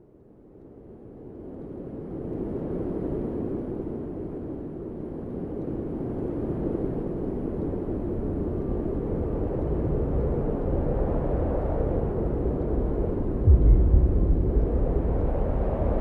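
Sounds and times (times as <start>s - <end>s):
wind buffeting microphone: 1.7s - 16.0s.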